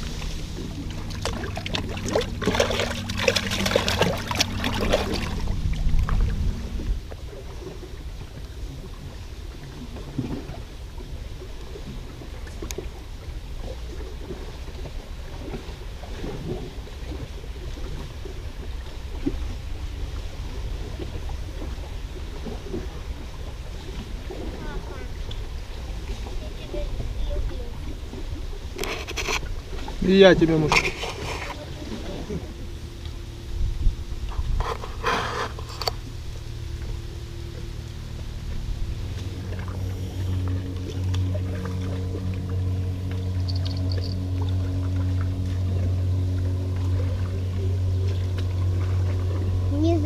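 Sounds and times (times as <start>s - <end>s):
low steady hum: 0.0s - 50.0s
wind rumble on microphone: 0.0s - 50.0s.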